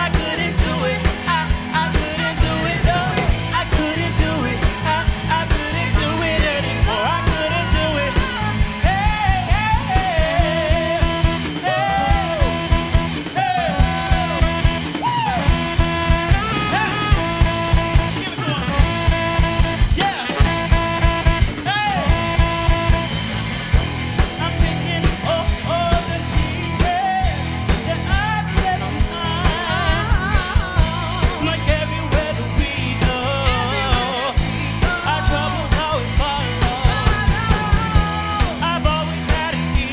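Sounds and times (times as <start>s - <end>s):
drum kit groove: 0.0s - 39.9s
electric bass: 0.0s - 39.9s
live fusion band playing: 0.0s - 39.9s
sliding lead melody: 0.0s - 39.9s.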